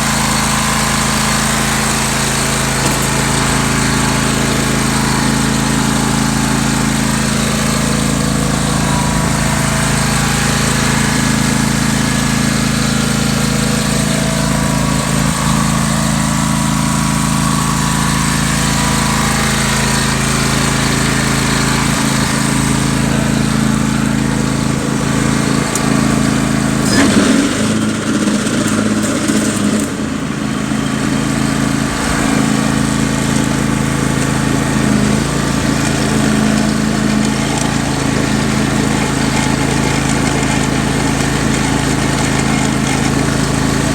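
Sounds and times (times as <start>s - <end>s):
yard tractor engine running: 0.0s - 43.9s.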